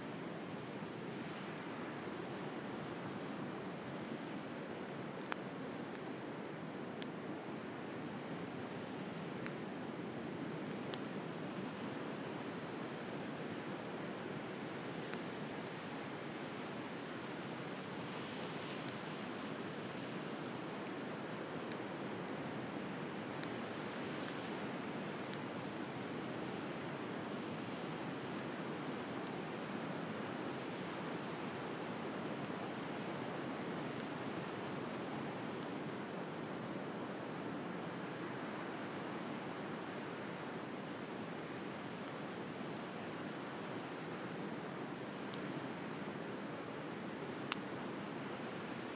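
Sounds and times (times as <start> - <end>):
bonfire crackling and popping: 0.1 - 48.9.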